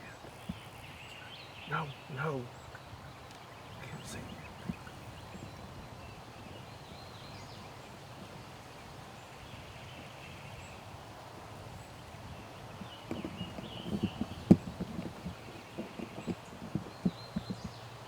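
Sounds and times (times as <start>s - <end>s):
distant bird calls: 0.0s - 18.0s
rustle of movement: 0.0s - 18.0s.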